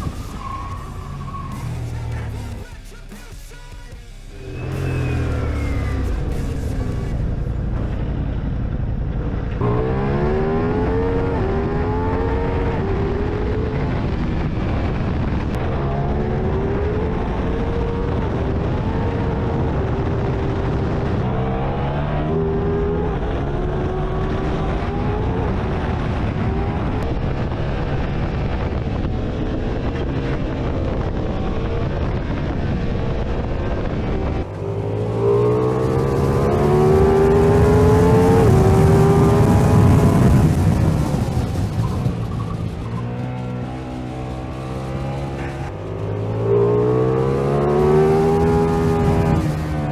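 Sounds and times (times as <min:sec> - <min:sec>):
motorcycle engine shifting through gears: 0:04.3 - 0:49.9.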